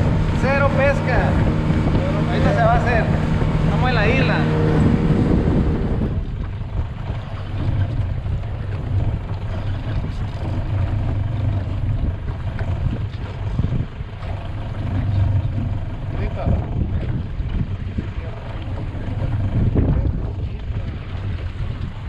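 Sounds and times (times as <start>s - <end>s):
faint wind: 0.0s - 22.0s
outboard motor idling: 0.0s - 22.0s
water noise: 0.0s - 22.0s.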